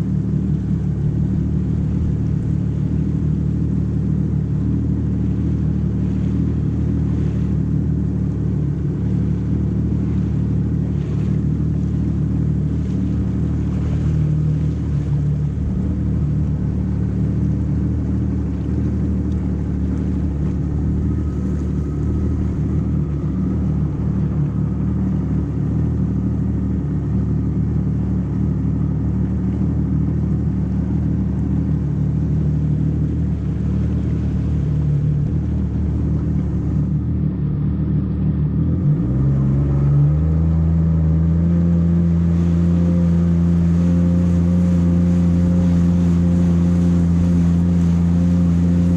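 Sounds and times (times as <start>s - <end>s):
jet ski engine droning: 0.0s - 48.9s.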